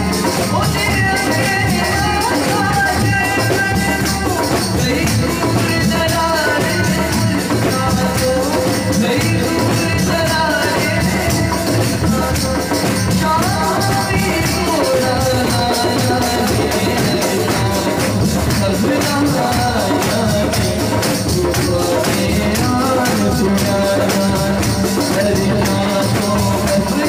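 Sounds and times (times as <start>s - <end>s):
boy singing into a microphone: 0.0s - 27.0s
rhythmic percussion: 0.0s - 27.0s.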